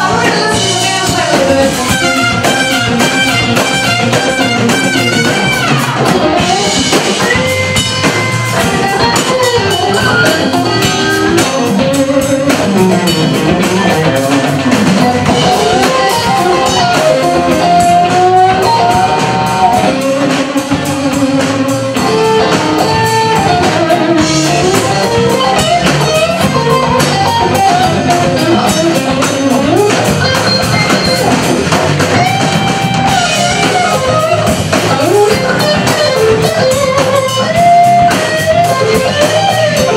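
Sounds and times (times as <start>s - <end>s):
bass guitar: 0.0s - 39.9s
drum kit: 0.0s - 39.9s
electric guitar solo: 0.0s - 39.9s.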